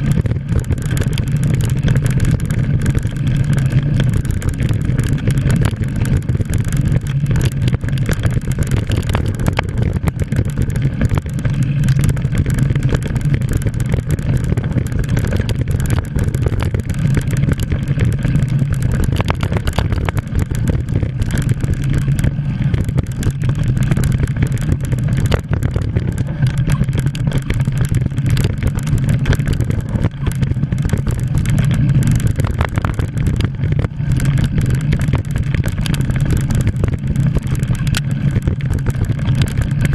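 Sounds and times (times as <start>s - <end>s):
bike rumbling and rattling: 0.0s - 39.9s
wind rushing over microphone: 0.0s - 39.9s.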